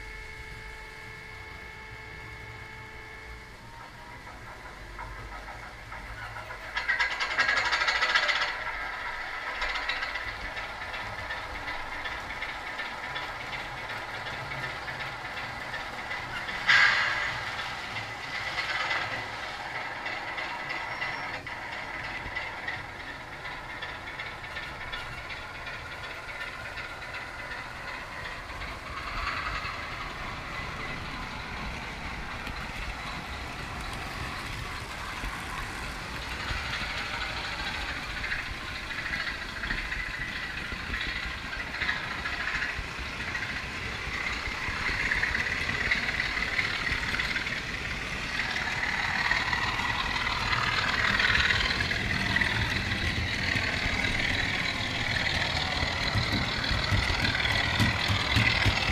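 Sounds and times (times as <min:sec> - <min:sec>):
model train wheels on rails: 0:00.0 - 0:58.9.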